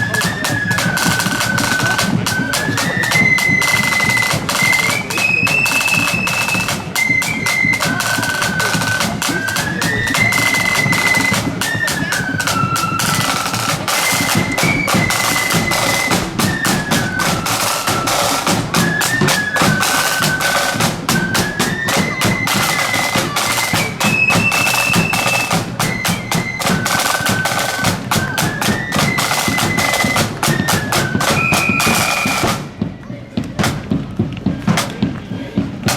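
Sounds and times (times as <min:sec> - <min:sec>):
marching band melody: 0:00.0 - 0:35.9
snare and bass drumming: 0:00.0 - 0:35.9.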